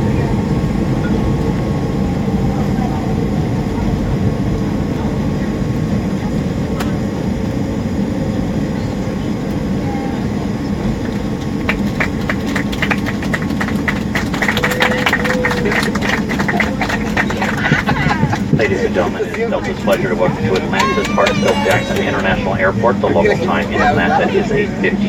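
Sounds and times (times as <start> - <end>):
jet engine and airflow rumble: 0.0 - 25.0.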